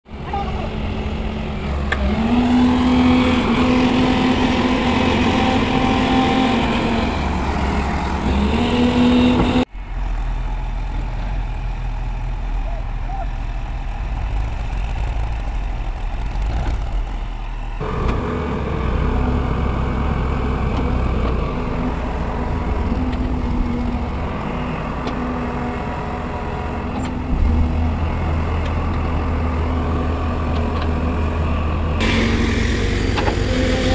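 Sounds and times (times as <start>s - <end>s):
diesel engines running: 0.0s - 33.9s.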